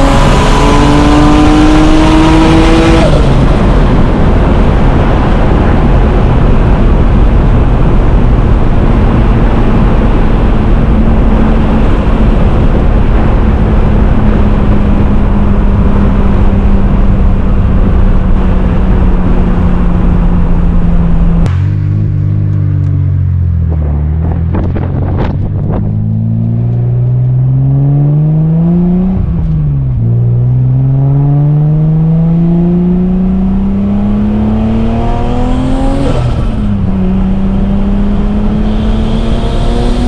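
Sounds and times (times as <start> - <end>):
car engine accelerating: 0.0 - 40.0
rushing sound of car at speed: 0.0 - 40.0.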